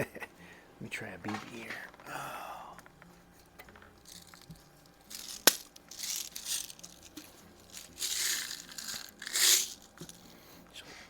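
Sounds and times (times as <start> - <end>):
hand rustles and crinkles: 1.2 - 10.4.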